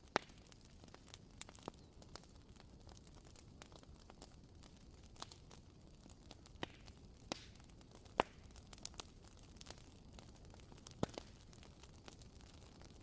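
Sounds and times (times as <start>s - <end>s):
candle wick crackling pops: 0.0s - 13.0s.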